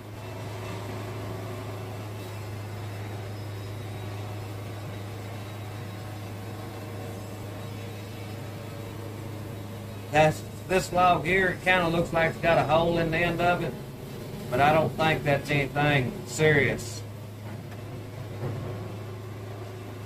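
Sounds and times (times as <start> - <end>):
band sawmill humming: 0.0 - 20.0.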